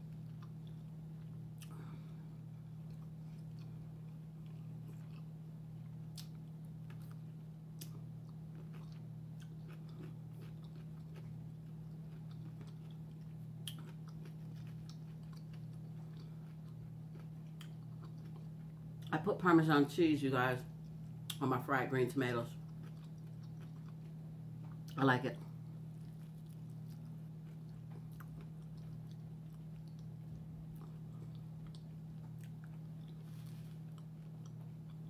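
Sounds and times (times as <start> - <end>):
person chewing pickle: 0.0 - 19.1, 22.6 - 35.0
steady low hum: 0.0 - 35.0.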